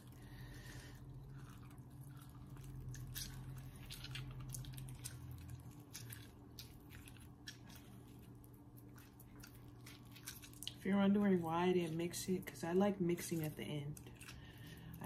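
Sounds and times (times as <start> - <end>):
low steady hum: 0.0 - 15.0
wet squishes of fruit: 0.0 - 15.0.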